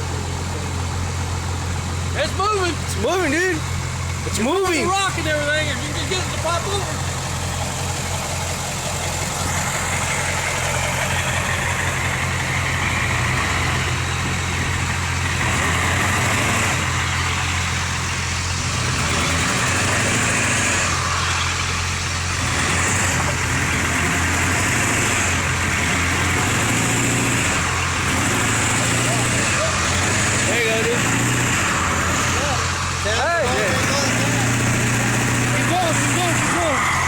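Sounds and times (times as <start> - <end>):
diesel engine running at low revs: 0.0 - 37.0.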